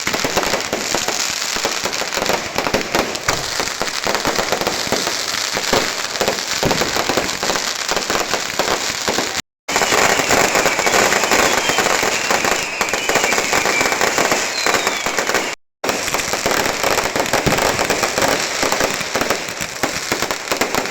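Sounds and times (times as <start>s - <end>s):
falling firework whistle: 0.0s - 20.9s
fireworks crackling: 0.0s - 20.9s.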